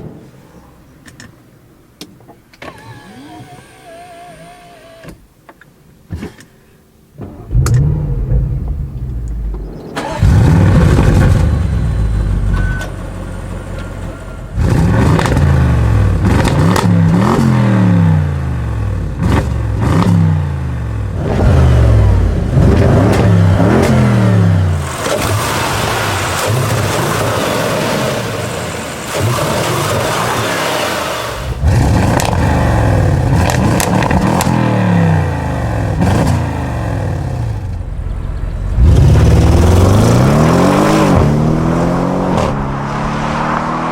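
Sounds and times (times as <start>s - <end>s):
car engine starting and revving: 7.2s - 43.9s.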